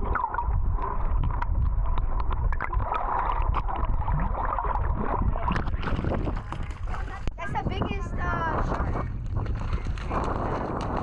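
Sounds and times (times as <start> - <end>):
water sloshing around boat: 0.0 - 11.0
wind buffeting microphone: 0.0 - 11.0.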